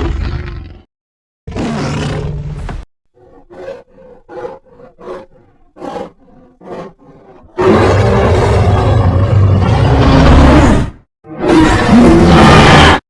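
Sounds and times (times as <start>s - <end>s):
giant ape roar: 0.0s - 0.9s, 1.5s - 13.0s.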